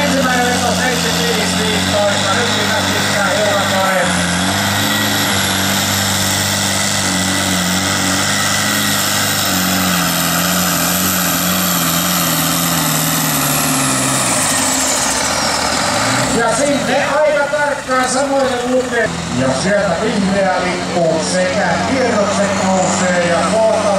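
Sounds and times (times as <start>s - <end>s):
tractor diesel engine straining: 0.0s - 23.9s.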